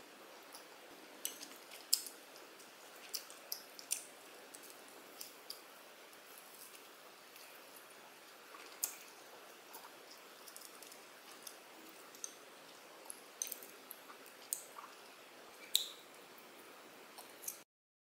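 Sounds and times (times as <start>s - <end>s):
soft wet food sounds: 0.0s - 17.6s.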